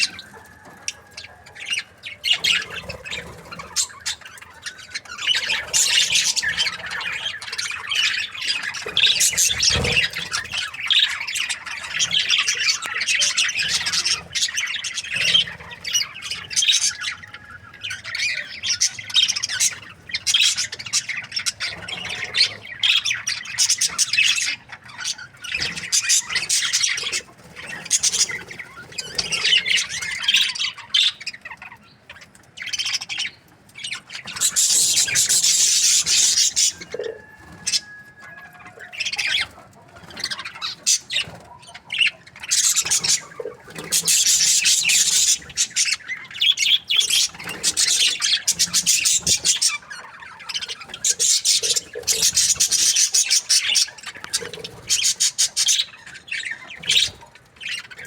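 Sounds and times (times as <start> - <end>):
budgerigar chirping and chattering: 1.2 - 58.0.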